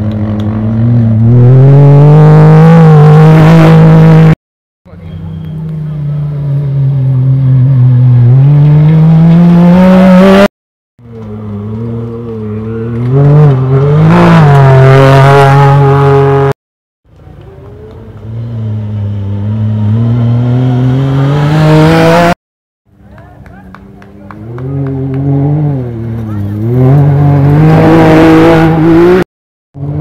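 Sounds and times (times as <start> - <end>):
rally buggy engines at full throttle: 0.0 - 16.6, 17.2 - 29.2, 29.8 - 30.0.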